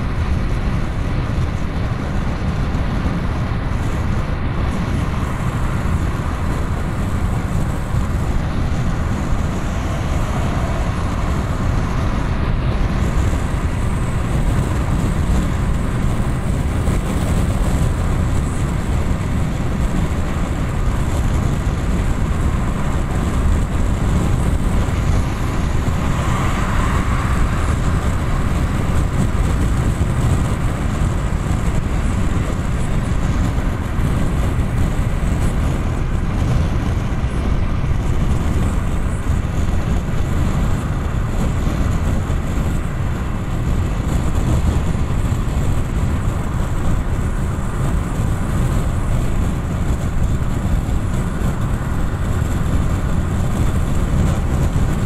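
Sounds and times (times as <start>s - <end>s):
car road noise from inside: 0.0s - 55.0s
wind hiss: 0.0s - 55.0s.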